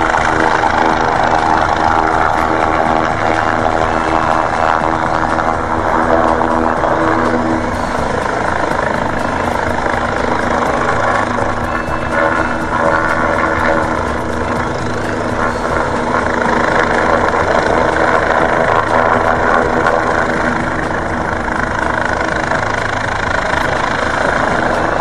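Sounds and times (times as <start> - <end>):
helicopter turbine whine and rotor: 0.0 - 25.0.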